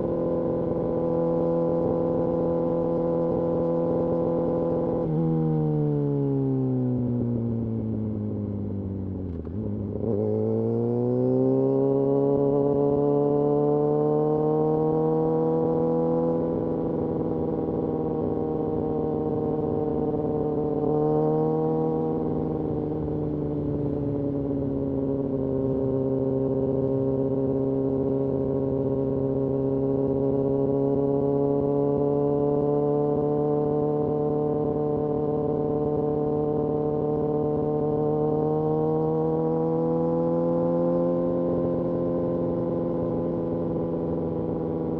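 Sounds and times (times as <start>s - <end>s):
motorcycle engine high-pitched drone: 0.0s - 44.9s.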